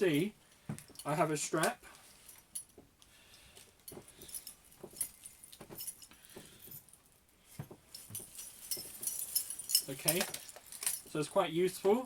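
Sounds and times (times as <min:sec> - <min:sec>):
strap hardware jingling: 0:00.0 - 0:12.0.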